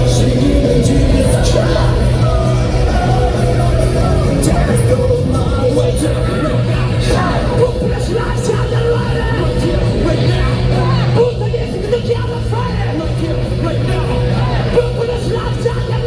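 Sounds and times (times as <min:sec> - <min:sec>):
live rock band: 0:00.0 - 0:16.0
person singing and shouting: 0:00.0 - 0:16.0.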